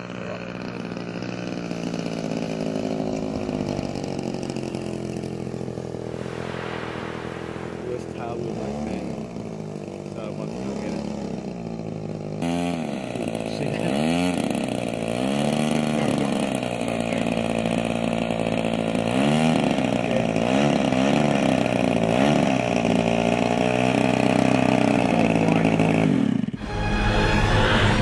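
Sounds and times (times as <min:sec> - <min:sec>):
model plane engine revving: 0:00.0 - 0:28.0.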